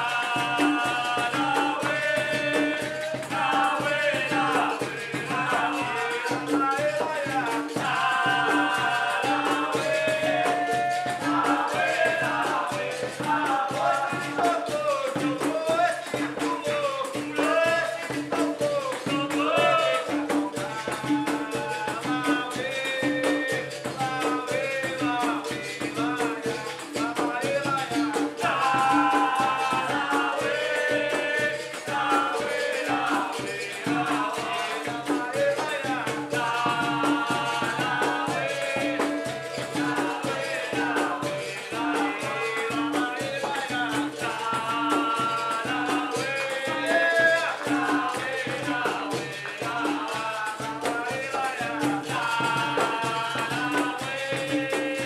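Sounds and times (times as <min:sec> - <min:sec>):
hand drum rhythm: 0:00.0 - 0:55.0
voices singing: 0:00.0 - 0:55.0.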